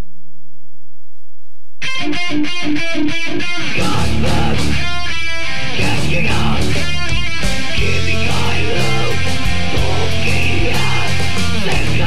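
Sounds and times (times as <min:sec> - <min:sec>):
picked guitar figure: 0:01.8 - 0:12.0
heavy rock band: 0:02.0 - 0:12.0.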